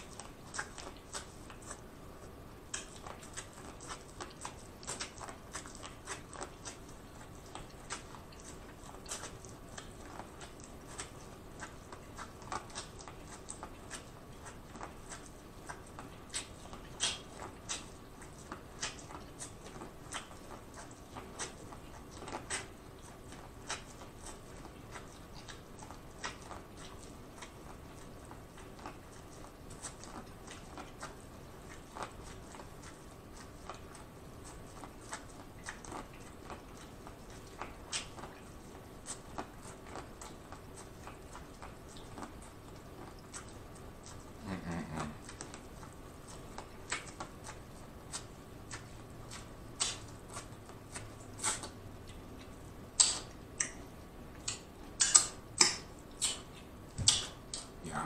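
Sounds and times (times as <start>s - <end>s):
corn on the cob chewing: 0.0s - 58.0s.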